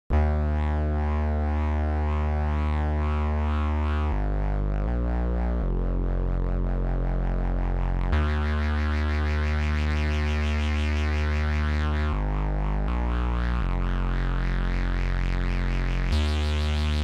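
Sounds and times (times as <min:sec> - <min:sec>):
synthesizer bass drone: 0:00.1 - 0:17.0.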